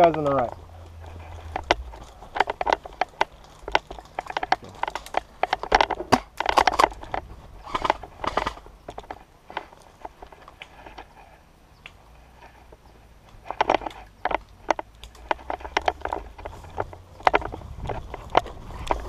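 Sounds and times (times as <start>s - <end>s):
gear and clothing rustling: 0.0s - 19.0s.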